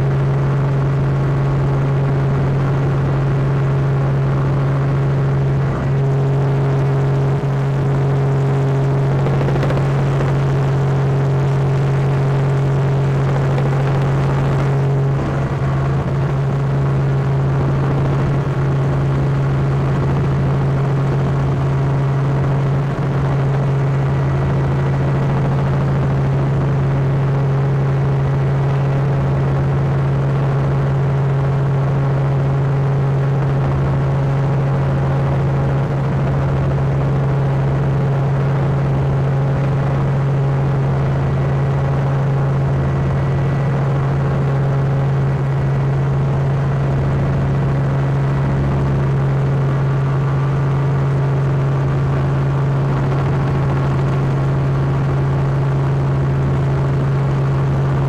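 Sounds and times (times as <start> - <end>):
aircraft engine drone in cabin: 0.0 - 58.0.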